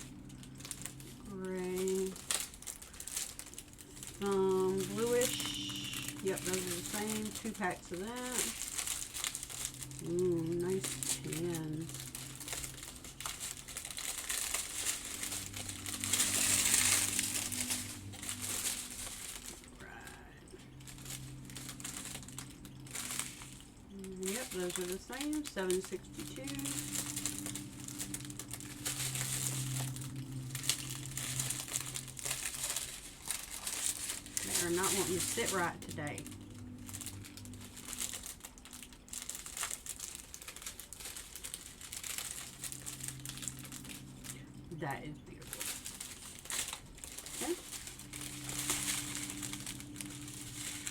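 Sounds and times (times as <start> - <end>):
plastic bags crinkling: 0.0 - 50.9.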